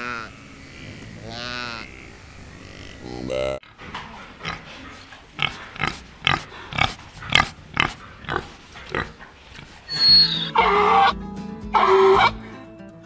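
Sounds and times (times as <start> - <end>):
wild boar grunting: 0.0 - 11.2, 11.8 - 12.6.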